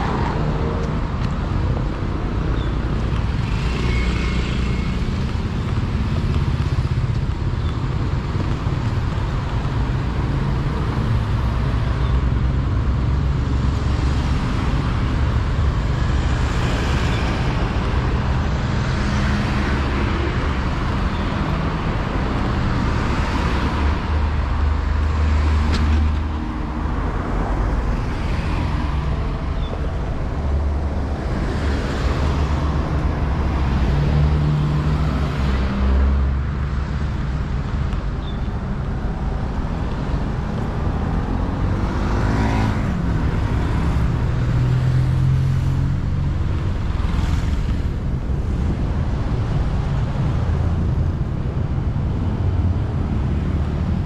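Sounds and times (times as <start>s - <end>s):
low traffic rumble: 0.0s - 54.0s
vehicles passing: 0.0s - 54.0s.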